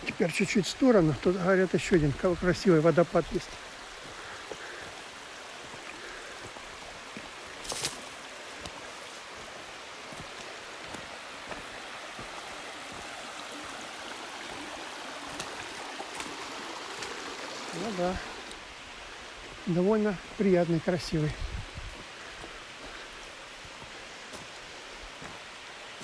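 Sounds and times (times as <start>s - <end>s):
rushing stream water: 0.0s - 26.0s.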